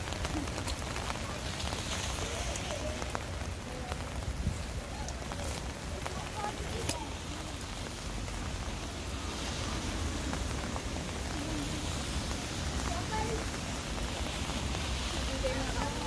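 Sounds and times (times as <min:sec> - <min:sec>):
faint voices: 0:00.0 - 0:16.0
steady rain hissing: 0:00.0 - 0:16.0.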